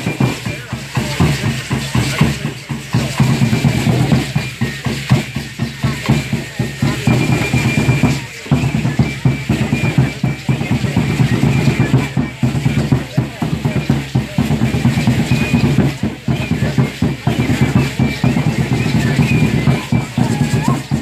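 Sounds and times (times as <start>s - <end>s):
wooden drums beating fast rhythm: 0.0s - 21.0s.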